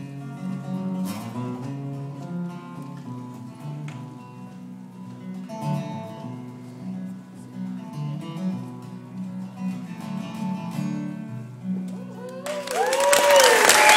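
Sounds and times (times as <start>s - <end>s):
acoustic guitar playing: 0.0s - 12.4s.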